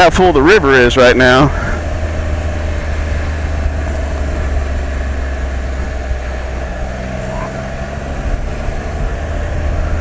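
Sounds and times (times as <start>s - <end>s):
three-wheeler engine running: 0.0s - 10.0s
wind rumble on microphone: 0.0s - 10.0s.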